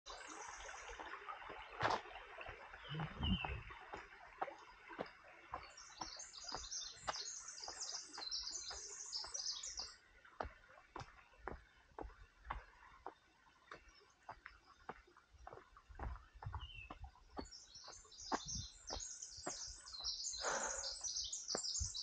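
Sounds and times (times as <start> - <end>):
songbird singing: 0.1 - 22.0
running footsteps on dirt: 0.6 - 22.0.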